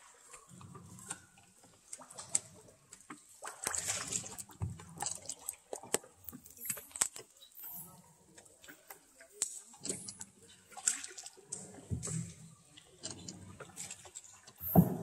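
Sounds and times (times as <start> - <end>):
water dripping in cave: 0.0 - 14.8.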